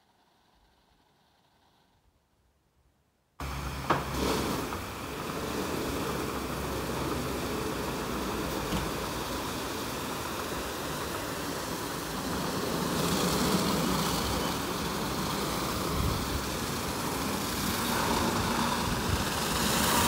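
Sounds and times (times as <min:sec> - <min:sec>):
car wash rotating brushes: 0:03.4 - 0:20.0
drive motors: 0:03.4 - 0:20.0
water spray: 0:03.4 - 0:20.0.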